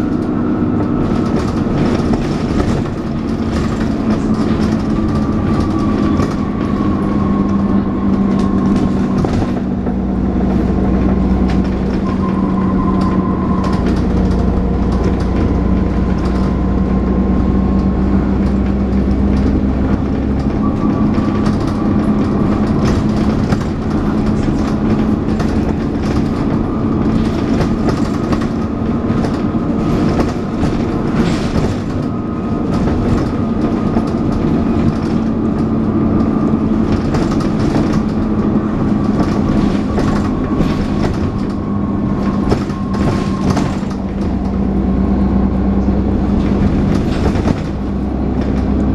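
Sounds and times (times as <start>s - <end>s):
bus engine whining: 0.0s - 48.9s
heavy low rumble: 0.0s - 48.9s.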